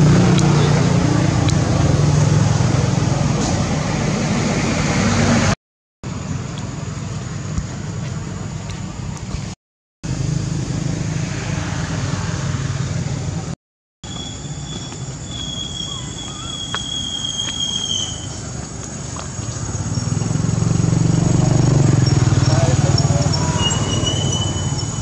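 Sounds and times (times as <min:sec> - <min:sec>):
road noise hiss: 0:00.0 - 0:25.0
vehicle engine humming: 0:00.0 - 0:25.0.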